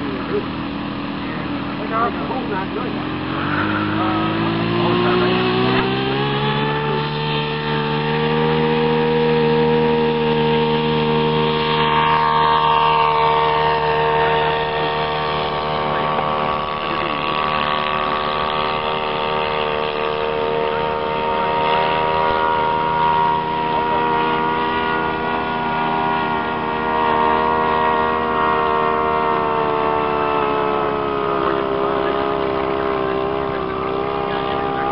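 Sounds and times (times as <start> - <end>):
model plane motor droning: 0.0 - 34.9.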